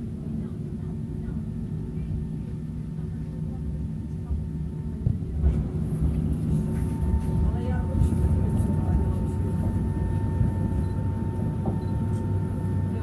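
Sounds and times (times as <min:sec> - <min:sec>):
faint hum: 0:00.0 - 0:13.0
tram rumbling on rails: 0:00.0 - 0:13.0.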